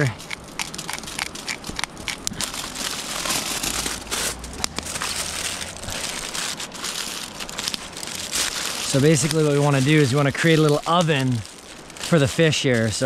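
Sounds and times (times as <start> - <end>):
tin foil crinkling: 0.0 - 13.0.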